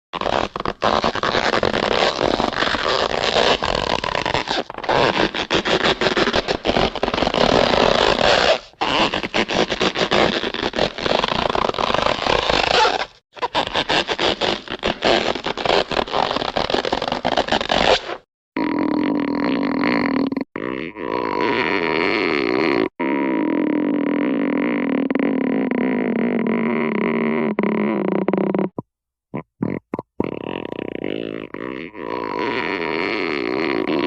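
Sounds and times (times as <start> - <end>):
cartoon rubber stretching: 0.2 - 34.0.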